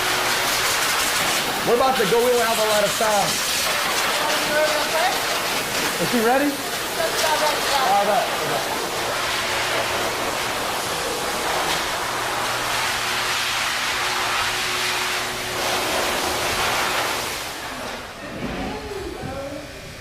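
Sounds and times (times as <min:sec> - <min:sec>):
blow dryer blasting air: 0:00.0 - 0:20.0.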